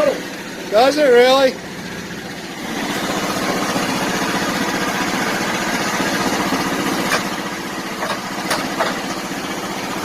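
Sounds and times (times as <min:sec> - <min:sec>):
small gasoline engine running: 0:00.0 - 0:10.0.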